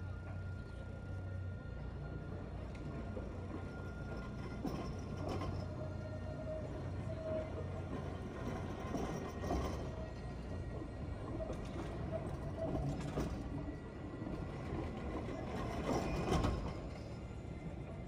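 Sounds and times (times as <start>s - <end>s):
tram rumbling on rails: 0.0s - 18.0s
tram knocks and rattles: 2.3s - 18.0s.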